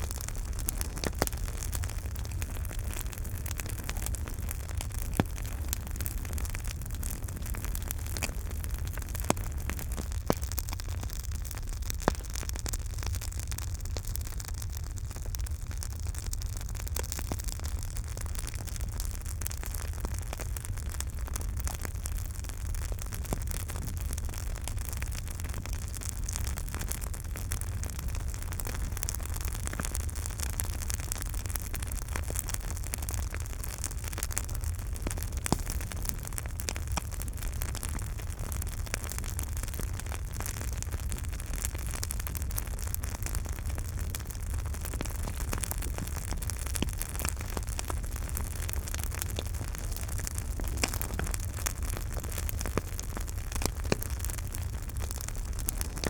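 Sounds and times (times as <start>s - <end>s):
fire pops: 0.0s - 14.7s, 16.3s - 56.0s
campfire crackling: 0.0s - 56.0s
low fire rumble: 0.0s - 56.0s.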